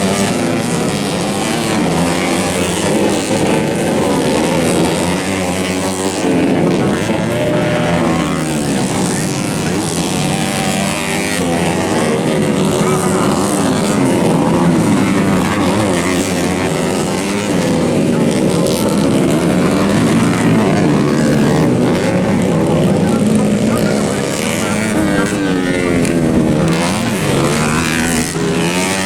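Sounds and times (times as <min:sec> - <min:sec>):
motocross bikes revving: 0:00.0 - 0:29.0.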